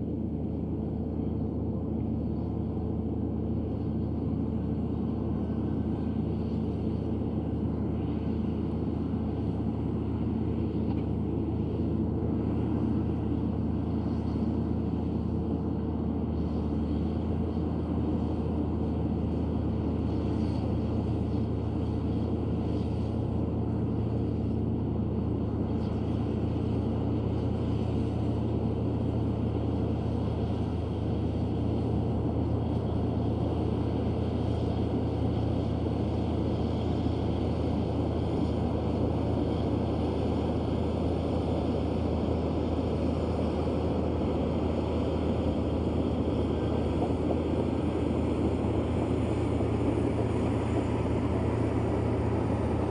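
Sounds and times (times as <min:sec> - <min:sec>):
bulldozer diesel engine drone: 0:00.0 - 0:52.9.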